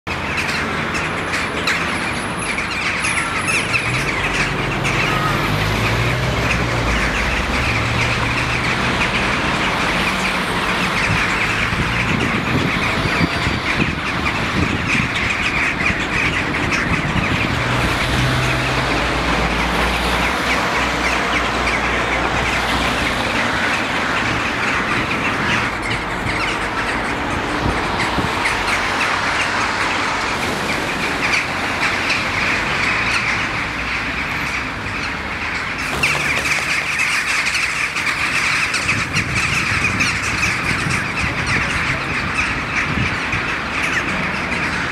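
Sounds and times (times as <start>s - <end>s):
flock of birds chirping and squawking: 0.1s - 44.9s
low rumble of traffic: 0.1s - 44.9s.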